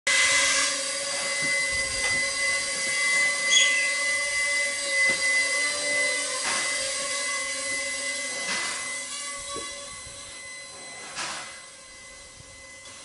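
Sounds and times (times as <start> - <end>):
mini quadcopter motors whining: 0.1 - 13.0.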